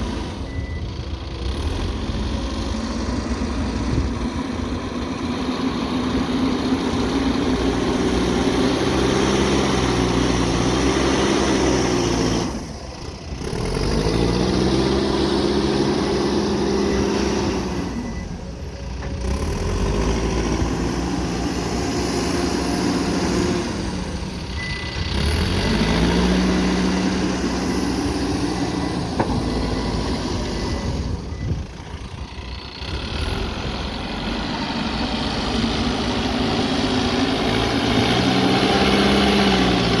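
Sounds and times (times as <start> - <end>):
backhoe diesel engine revving: 0.0 - 40.0.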